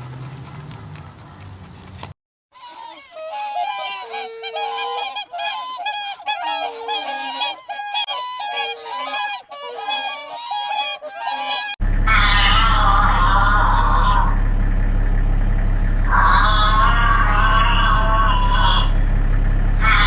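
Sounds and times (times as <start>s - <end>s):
geese honking: 2.6s - 20.0s.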